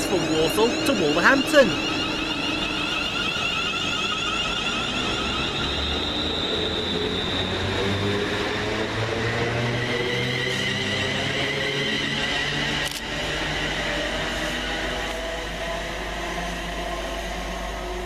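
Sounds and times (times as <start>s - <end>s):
low electric train hum: 0.0s - 18.0s
train wheel-and-rail noise: 0.0s - 18.0s.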